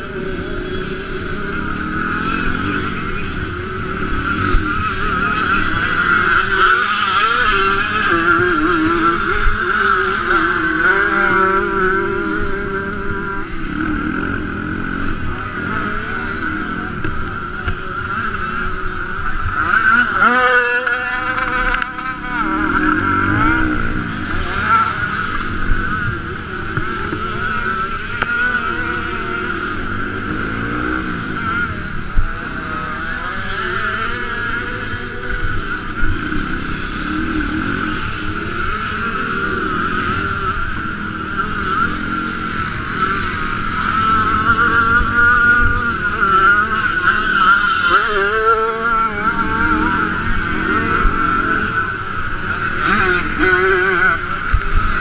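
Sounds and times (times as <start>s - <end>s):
motocross bike engine revving: 0.0s - 55.0s
wind: 0.0s - 55.0s.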